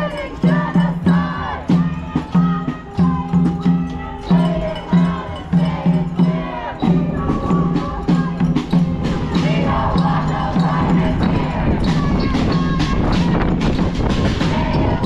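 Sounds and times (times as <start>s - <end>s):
crowd chanting in rhythm: 0.0s - 15.0s
drum beating: 0.0s - 15.0s.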